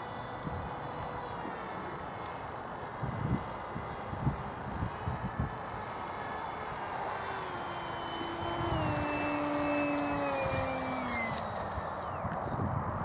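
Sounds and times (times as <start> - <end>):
model plane motor whining: 0.0 - 12.5.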